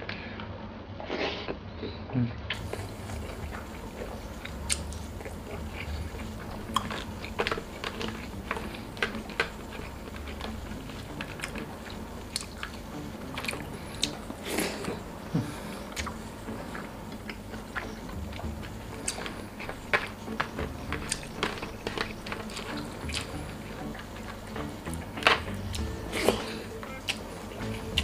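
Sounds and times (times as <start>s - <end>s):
person chewing and smacking: 2.5s - 28.0s.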